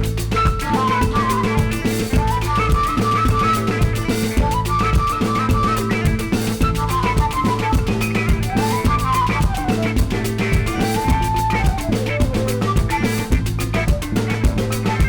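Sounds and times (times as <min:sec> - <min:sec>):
music with drums guitar and bass: 0:00.0 - 0:15.0.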